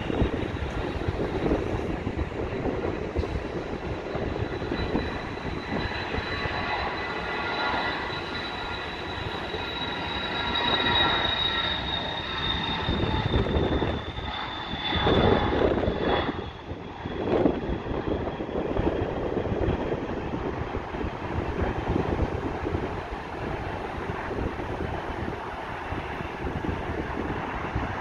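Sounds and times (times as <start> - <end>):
jet turbine whine: 0.0 - 28.0
rough jet rumble: 0.0 - 28.0.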